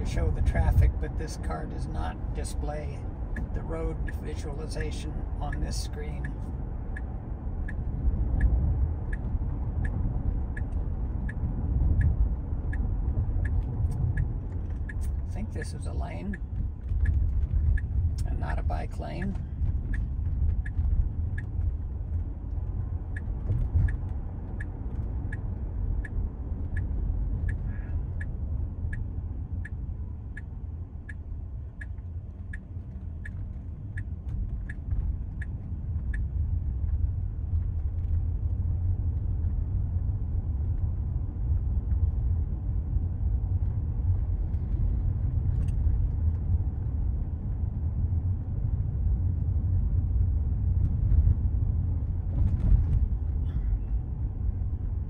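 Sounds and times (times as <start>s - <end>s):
turn signal ticking: 0.0s - 55.0s
tyre and road noise: 0.0s - 55.0s.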